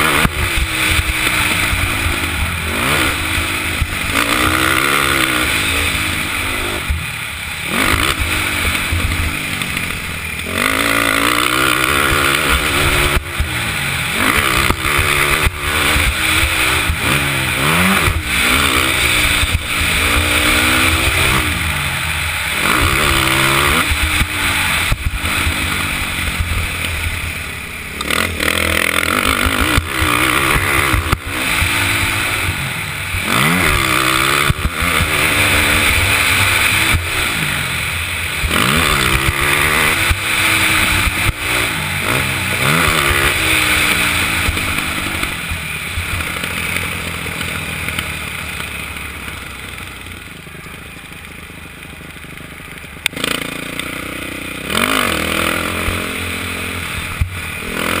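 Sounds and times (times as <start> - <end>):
motorcycle engine revving hard: 0.0 - 58.0.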